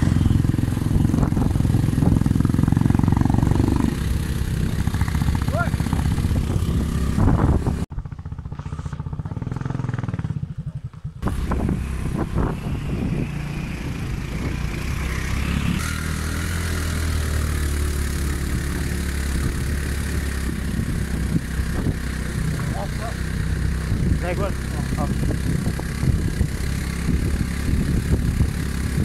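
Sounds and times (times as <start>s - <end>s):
road noise: 0.0s - 29.0s
scooter engine running: 0.0s - 29.0s.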